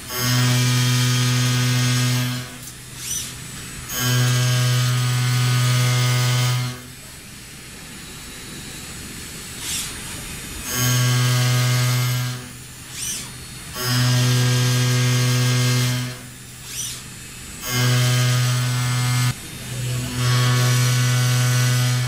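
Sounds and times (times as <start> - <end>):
milling cutter cutting metal: 0.0 - 22.0.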